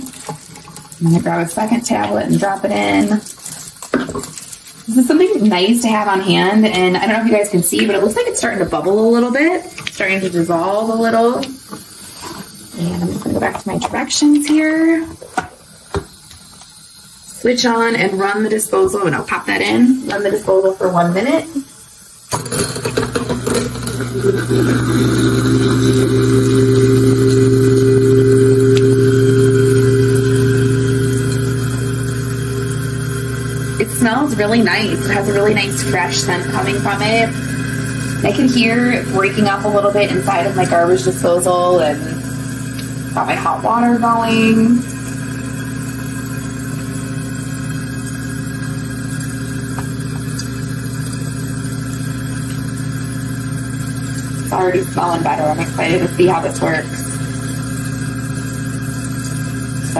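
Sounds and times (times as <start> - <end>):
garbage disposal grinding: 0.0 - 59.9
tap water running into drain: 0.0 - 59.9.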